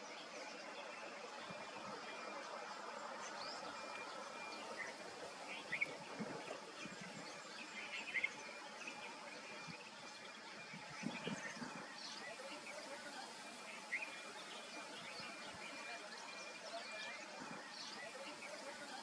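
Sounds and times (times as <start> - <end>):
birds chirping: 0.0 - 19.0
steady background hiss: 0.0 - 19.0.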